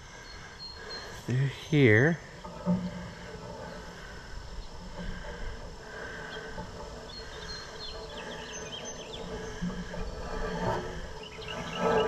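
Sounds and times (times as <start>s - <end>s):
faint insects: 0.0s - 12.0s.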